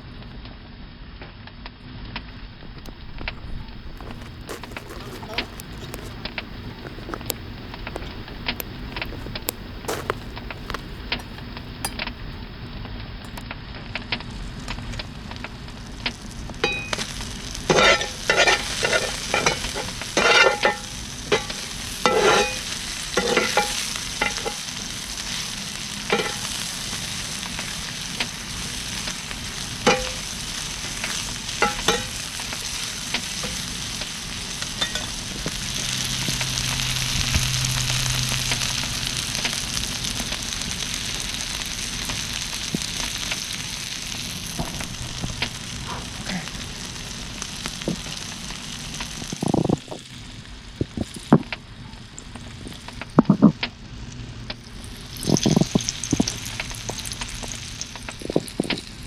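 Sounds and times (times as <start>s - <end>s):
fire crackling pops: 2.4s - 14.2s, 14.9s - 53.8s, 54.4s - 59.0s
food sizzling in a pan: 2.6s - 13.5s, 14.6s - 53.2s, 53.8s - 59.0s.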